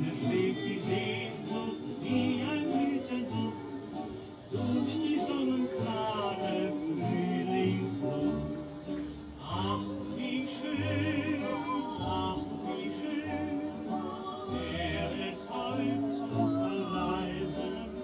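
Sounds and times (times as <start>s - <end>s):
person singing long wavering notes: 0.0s - 18.0s.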